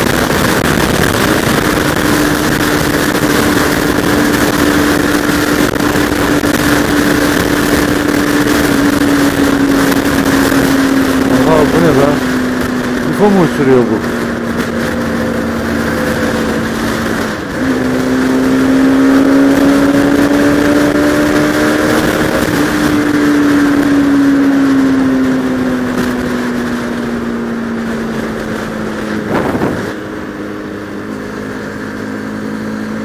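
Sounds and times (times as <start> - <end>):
wind noise: 0.0 - 30.9
motorcycle engine revving: 0.0 - 33.0.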